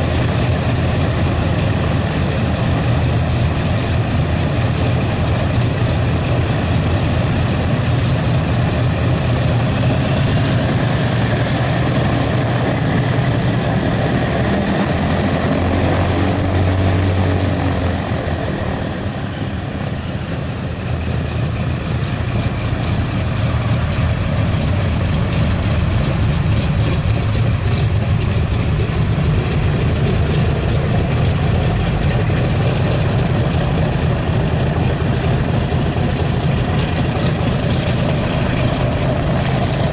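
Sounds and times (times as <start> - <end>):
propeller plane radial engine running: 0.0 - 39.9.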